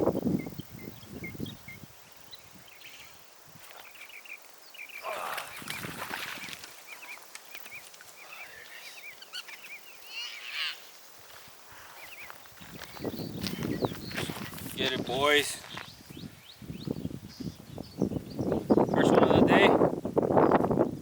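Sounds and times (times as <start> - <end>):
birds chirping: 0.0 - 19.8.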